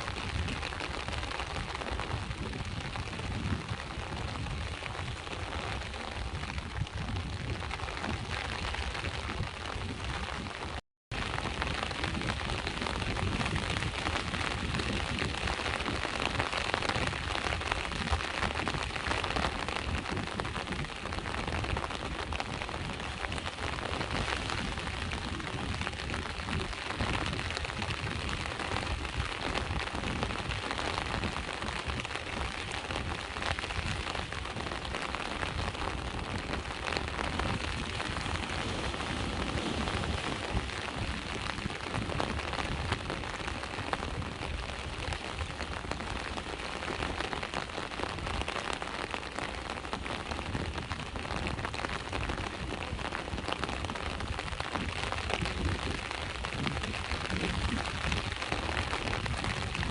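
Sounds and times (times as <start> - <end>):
sea waves washing ashore: 0.0 - 50.4
rain falling: 0.0 - 59.9.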